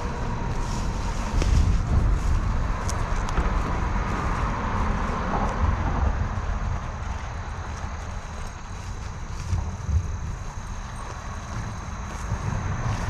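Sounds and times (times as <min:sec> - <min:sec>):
highway traffic rushing: 0:00.0 - 0:13.0.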